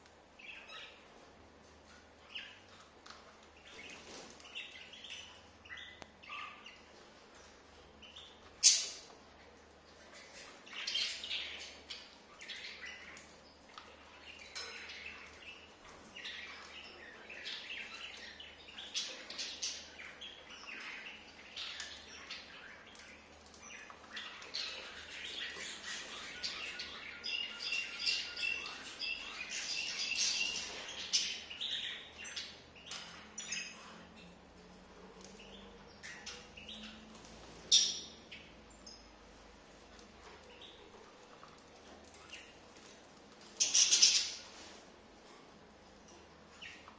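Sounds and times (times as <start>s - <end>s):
birds chirping: 0.2s - 46.9s.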